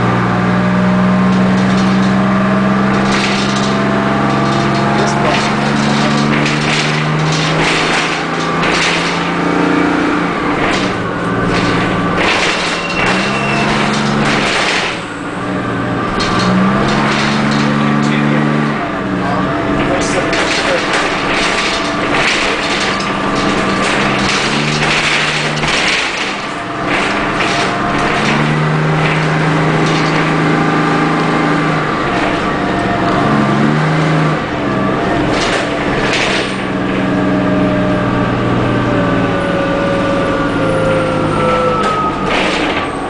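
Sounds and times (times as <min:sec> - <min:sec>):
bus body rattles and knocks: 0:00.0 - 0:43.0
bus diesel engine running: 0:00.0 - 0:43.0.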